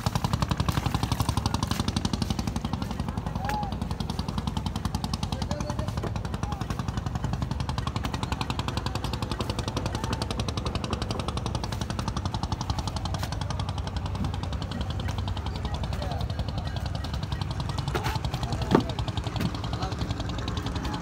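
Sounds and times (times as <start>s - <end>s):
motor boat engine chugging: 0.0s - 21.0s.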